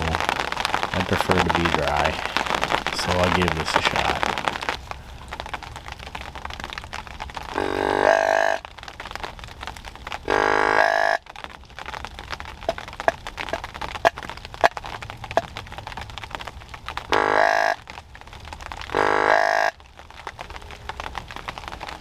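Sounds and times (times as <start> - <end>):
rain tapping on cover: 0.0 - 10.3, 11.2 - 17.1, 17.8 - 19.0, 19.7 - 22.0.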